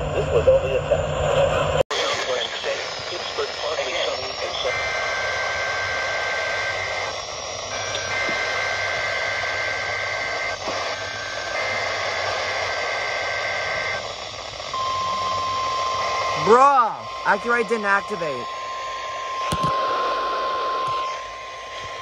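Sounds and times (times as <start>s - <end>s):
radio hiss: 0.0s - 22.0s
buzzing high-pitched data tones: 2.2s - 22.0s.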